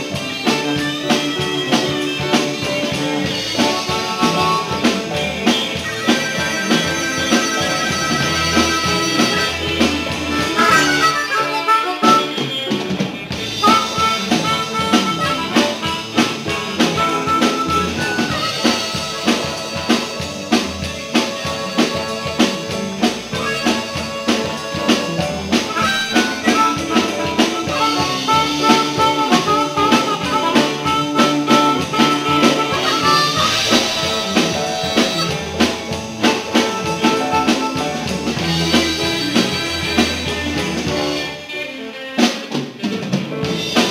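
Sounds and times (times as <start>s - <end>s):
rock band playing: 0.0s - 43.9s
harmonica solo: 0.1s - 41.6s.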